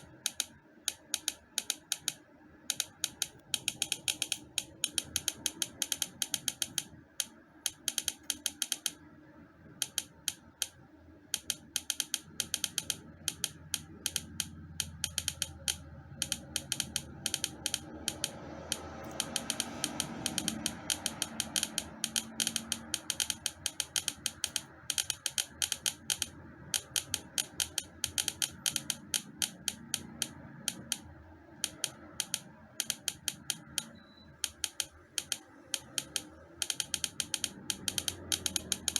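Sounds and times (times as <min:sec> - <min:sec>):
rapid sharp clicking: 0:00.0 - 0:38.9.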